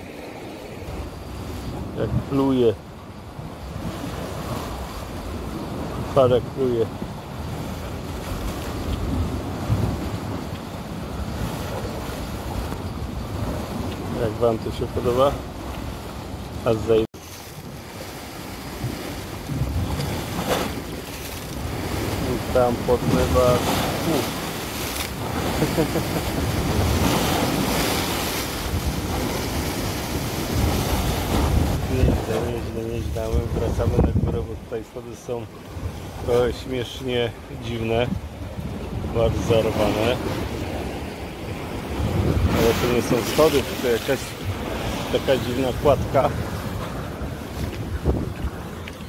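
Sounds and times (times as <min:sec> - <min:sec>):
sea waves splashing on shore: 0:00.0 - 0:49.0
wind rumbling on microphone: 0:00.0 - 0:49.0.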